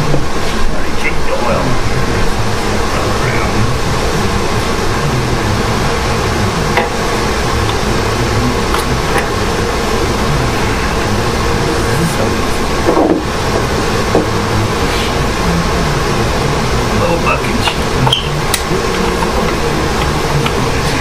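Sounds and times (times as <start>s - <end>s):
fan-like rushing noise: 0.0s - 21.0s.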